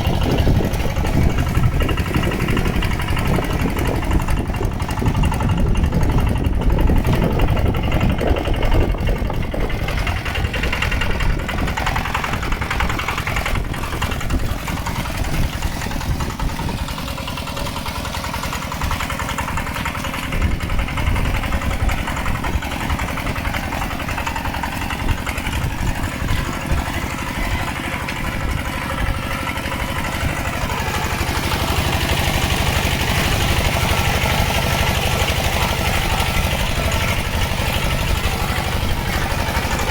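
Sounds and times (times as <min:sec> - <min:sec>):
plowing through water and mud: 0:00.0 - 0:39.9
tractor engine running: 0:00.0 - 0:39.9.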